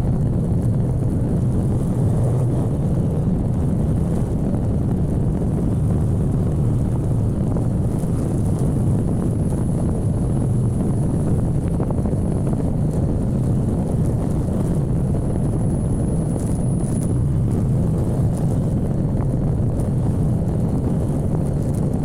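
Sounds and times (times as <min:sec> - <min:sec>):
motorcycle engine running: 0:00.0 - 0:22.0
wind rushing on microphone: 0:00.0 - 0:22.0.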